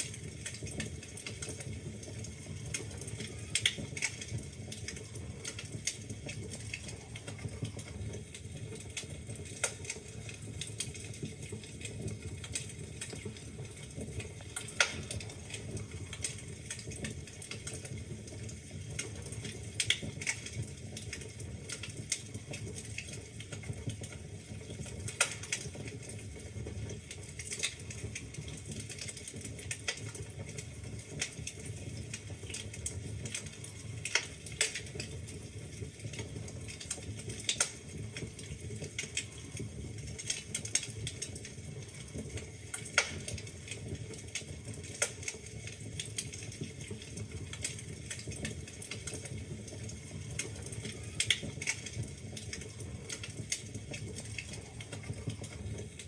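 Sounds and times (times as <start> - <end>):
logs crackling and popping: 0.0 - 56.0
wood fire rumbling: 0.0 - 56.0.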